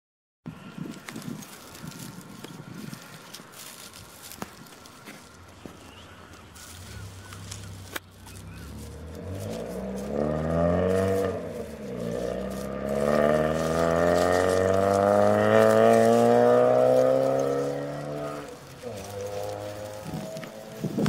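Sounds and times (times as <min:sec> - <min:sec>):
vehicle engine accelerating: 0:03.2 - 0:21.0.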